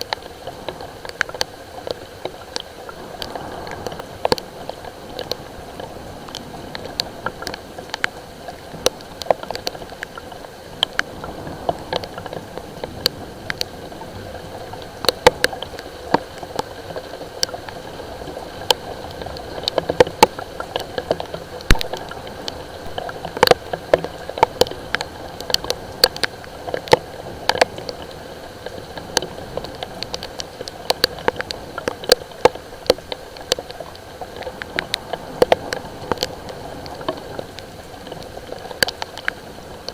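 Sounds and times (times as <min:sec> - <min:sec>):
light rain falling: 0:00.0 - 0:39.9
raindrops tapping: 0:00.0 - 0:39.9.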